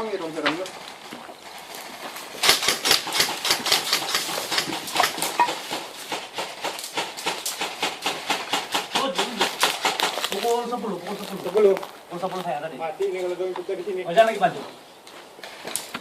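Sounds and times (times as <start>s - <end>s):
footsteps crunching dry leaves: 0.0s - 7.4s, 9.0s - 16.0s.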